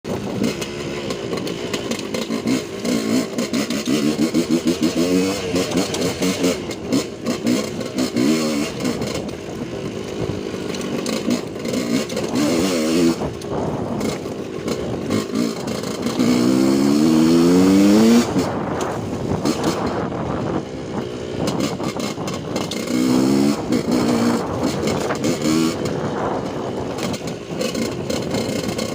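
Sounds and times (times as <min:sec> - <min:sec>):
dirt bike engine revving: 0:00.1 - 0:28.9.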